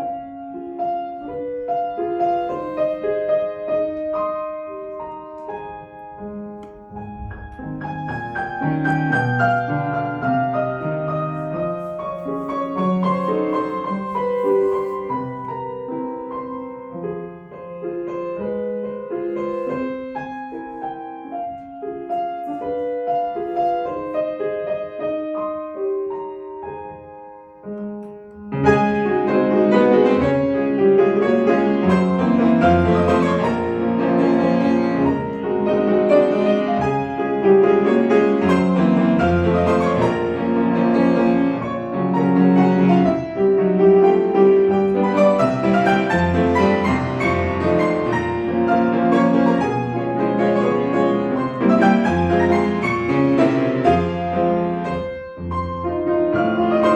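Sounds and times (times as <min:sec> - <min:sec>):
solo classical piano: 0:00.0 - 0:56.9.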